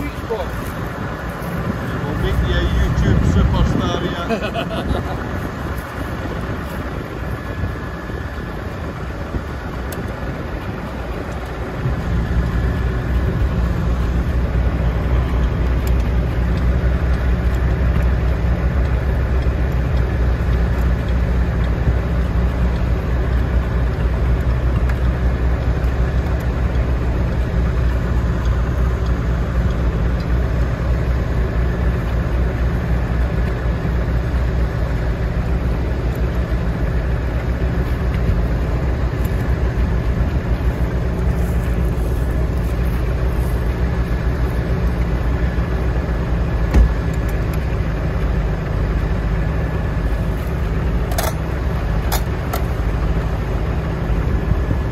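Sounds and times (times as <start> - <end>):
tractor engine idling: 0.0 - 54.9.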